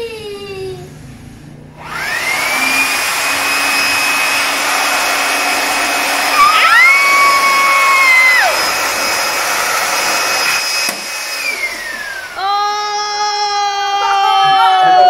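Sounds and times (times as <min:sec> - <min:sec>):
electric air blower motor whine: 0:00.7 - 0:13.5.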